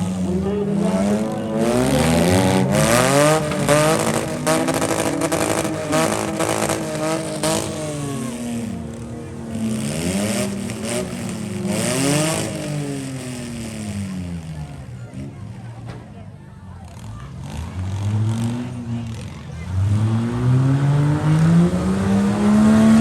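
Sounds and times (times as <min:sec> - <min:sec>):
vehicle engines revving: 0:00.0 - 0:23.0.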